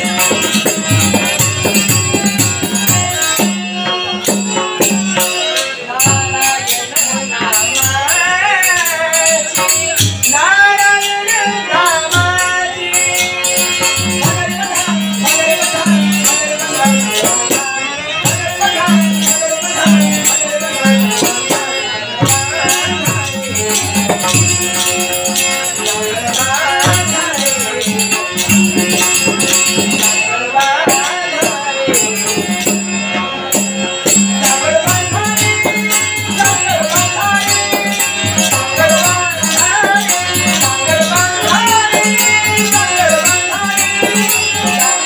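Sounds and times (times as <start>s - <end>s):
man singing into a microphone: 0.0s - 45.0s
rhythmic percussion with jingling: 0.0s - 45.0s.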